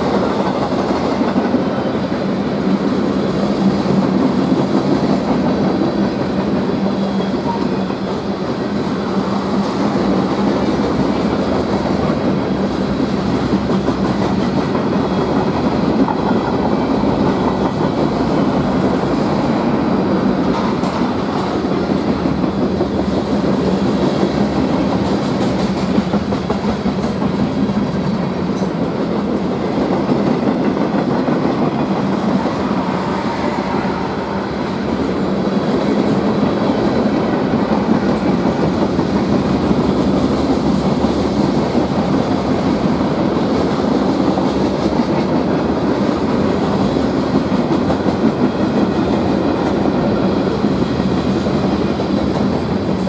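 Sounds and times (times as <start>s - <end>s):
freight train rumbling past: 0.0s - 53.0s
steel wheels clacking on rails: 0.0s - 53.0s.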